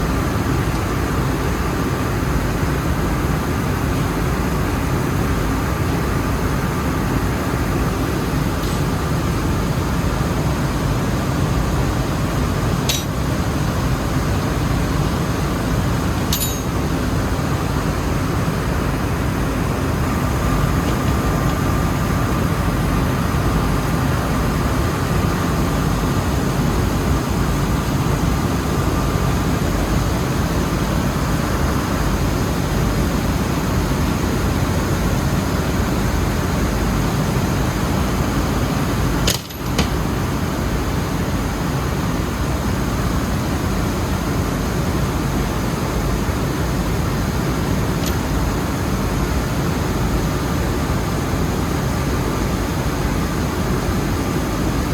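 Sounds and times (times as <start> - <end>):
rice mill machinery drone: 0.0 - 54.9.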